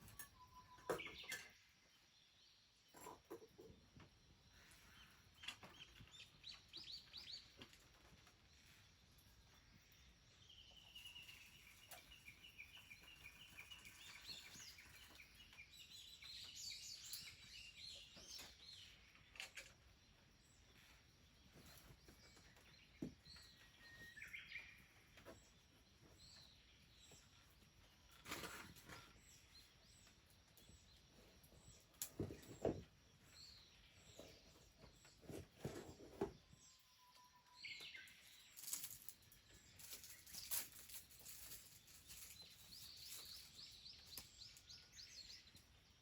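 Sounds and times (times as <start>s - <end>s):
songbirds calling faintly: 0.0s - 46.0s.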